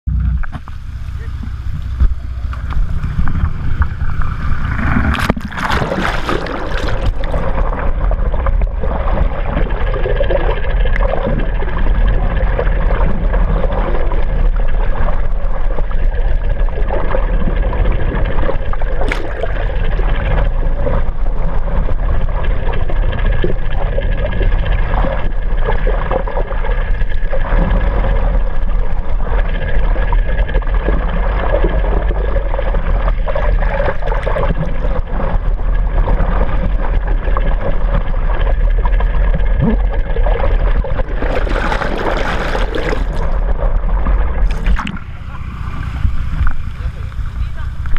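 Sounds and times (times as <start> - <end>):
steady low rumble: 0.0 - 47.9
muffled water sloshing: 0.1 - 47.9.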